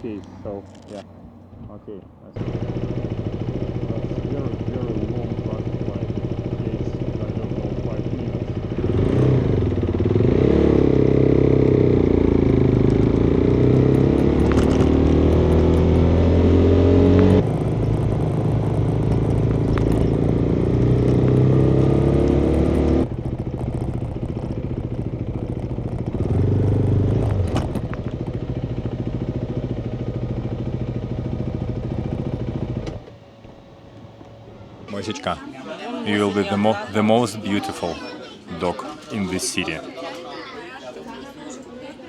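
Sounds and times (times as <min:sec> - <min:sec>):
motorcycle engine accelerating: 0:00.0 - 0:35.2.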